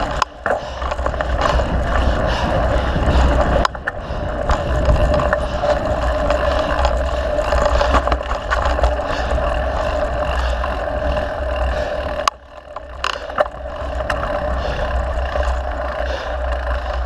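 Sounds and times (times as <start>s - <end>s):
bike rumble and rattles: 0.0s - 17.0s
wind rushing over microphone: 0.0s - 17.0s.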